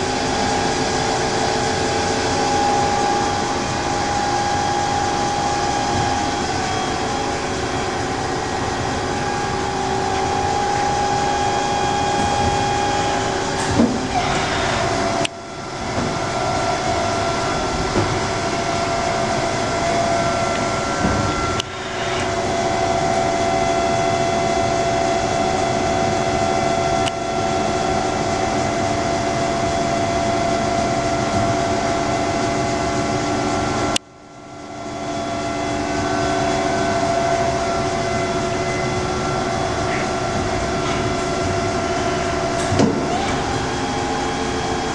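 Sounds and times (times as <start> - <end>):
lathe humming and whining: 0.0 - 44.9.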